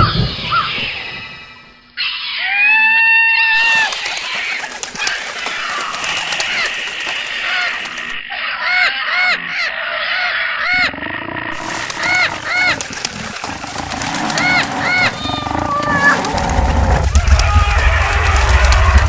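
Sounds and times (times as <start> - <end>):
large birds calling: 0.0 - 19.0.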